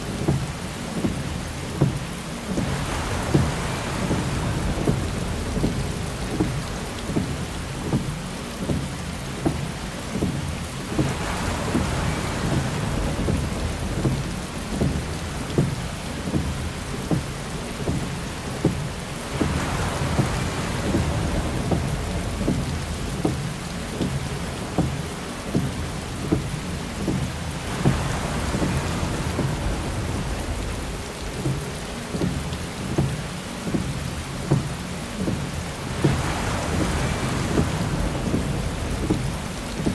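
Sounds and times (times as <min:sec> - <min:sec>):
heavy rain pattering on car: 0:00.0 - 0:39.9
windshield wiper swishing: 0:00.0 - 0:39.9.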